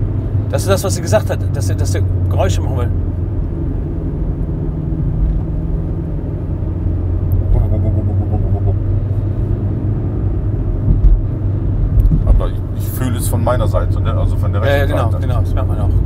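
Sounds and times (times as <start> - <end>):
car cabin rumble and drone: 0.0 - 16.0.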